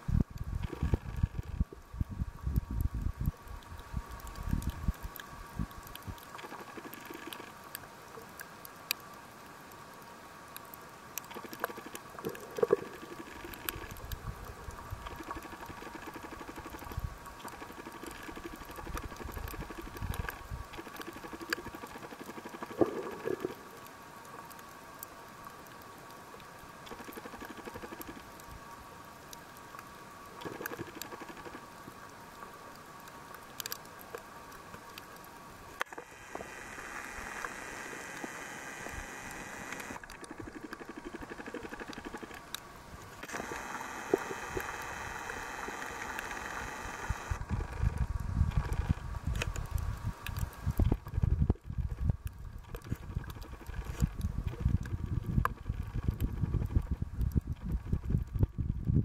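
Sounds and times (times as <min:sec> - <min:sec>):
faint underwater clicks and crackles: 0:00.0 - 0:59.0
thin steady hum: 0:00.0 - 0:59.0.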